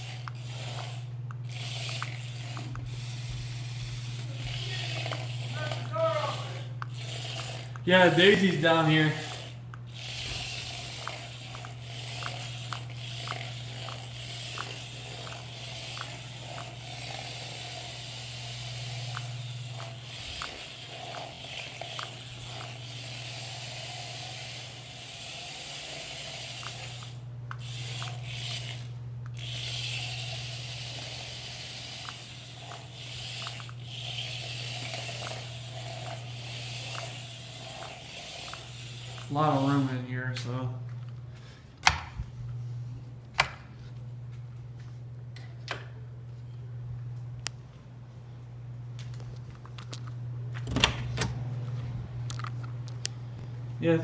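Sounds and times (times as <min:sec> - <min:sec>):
small electric motor humming: 0:00.0 - 0:44.1.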